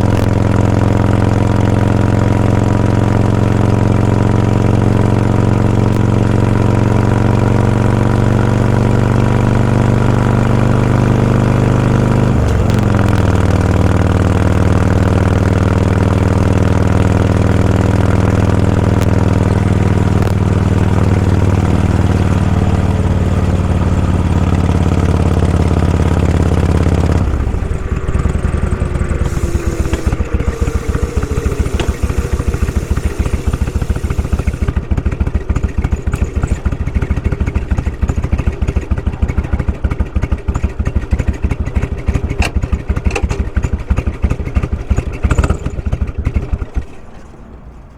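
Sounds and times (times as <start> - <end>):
motorcycle engines idling: 0.0 - 47.9
rapid pulsing engine: 0.0 - 47.9.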